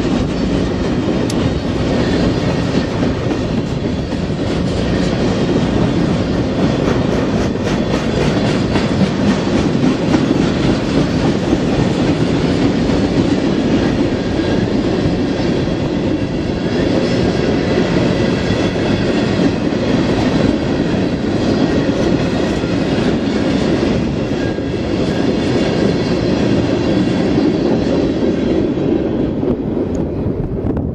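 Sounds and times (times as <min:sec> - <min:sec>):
clickety-clack over rail joints: 0:00.0 - 0:30.9
train wheels on rails: 0:00.0 - 0:30.9.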